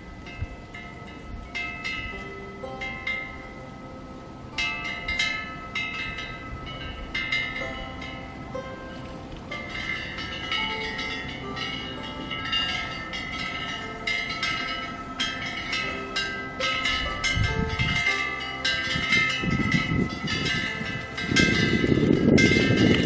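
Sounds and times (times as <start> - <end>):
metal wind bells ringing: 0.0 - 23.0
wind rumbling on microphone: 0.0 - 23.0.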